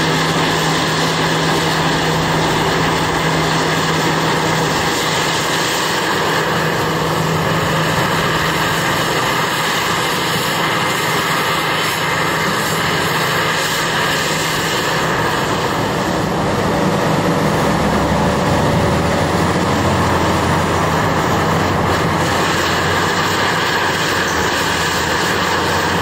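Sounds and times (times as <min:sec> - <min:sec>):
excavator engine and hydraulics droning: 0:00.0 - 0:26.0.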